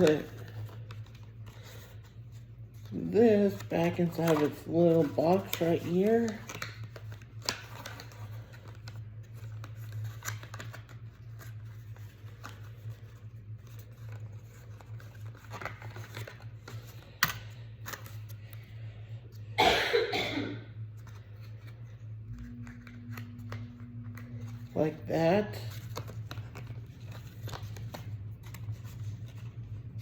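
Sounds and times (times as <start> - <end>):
watch and packaging handled: 0.0 - 19.4, 20.8 - 30.0
steady low hum: 0.0 - 30.0.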